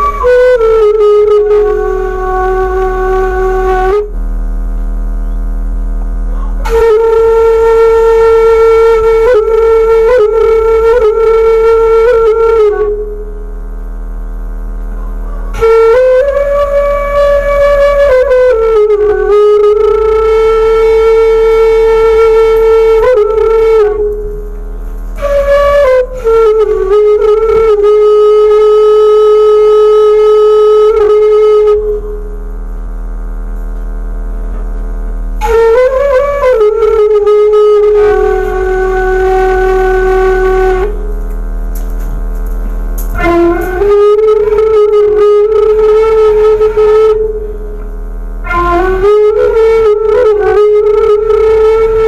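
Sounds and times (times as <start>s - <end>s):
bamboo flute playing: 0.0s - 33.0s, 33.6s - 52.0s.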